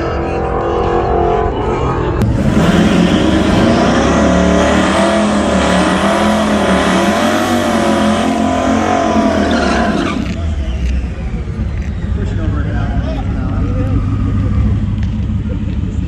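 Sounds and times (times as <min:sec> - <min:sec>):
vehicle engine at full throttle: 0:00.0 - 0:16.0.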